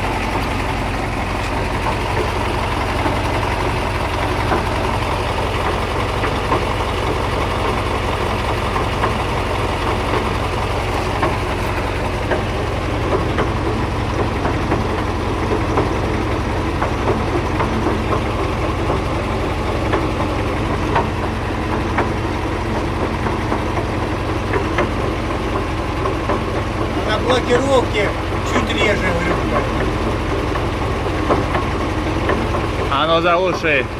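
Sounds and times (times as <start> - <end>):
diesel truck engine running: 0.0 - 33.9
knocks and clanks from axle: 0.0 - 33.9.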